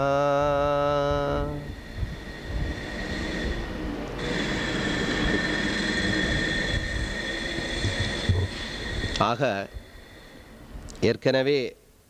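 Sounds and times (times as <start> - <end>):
thin high whine: 0.0 - 11.8
steady rumbling noise: 0.0 - 12.0.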